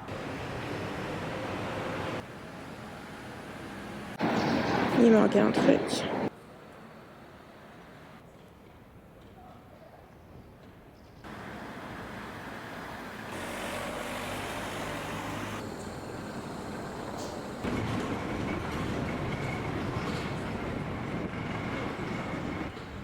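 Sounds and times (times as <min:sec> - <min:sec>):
traffic noise: 0:00.0 - 0:09.0, 0:11.2 - 0:23.0.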